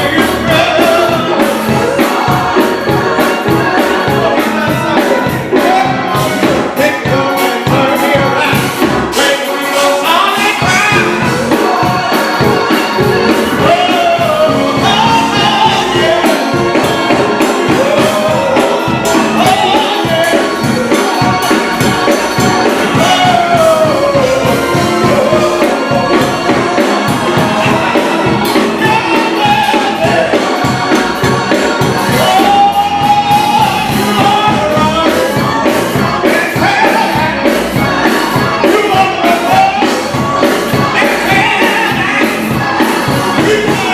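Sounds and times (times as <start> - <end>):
band with steady beat: 0.0 - 43.9
choir singing: 0.0 - 43.9.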